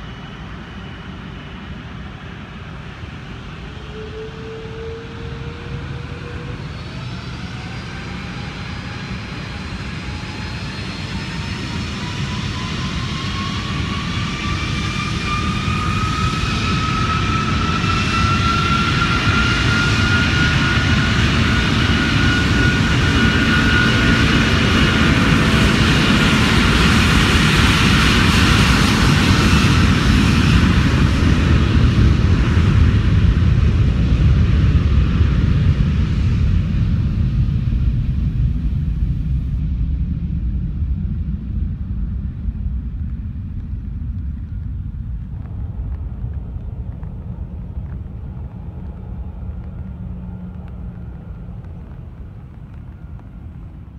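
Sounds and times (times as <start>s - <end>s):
deep jet rumble: 0.0s - 53.9s
jet engine whine: 0.0s - 53.9s.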